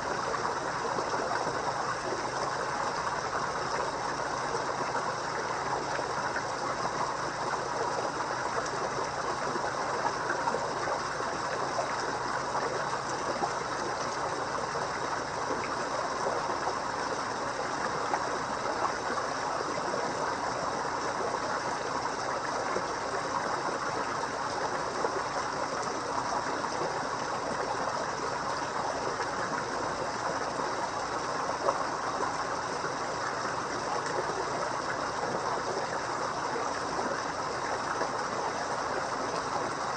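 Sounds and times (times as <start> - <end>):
faint steady hum: 0.0 - 39.9
water trickling and splashing: 0.0 - 39.9.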